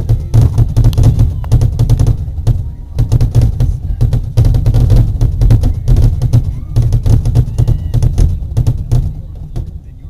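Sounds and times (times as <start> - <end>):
fireworks bursting: 0.0 - 10.0
steady low rumble: 0.0 - 10.0.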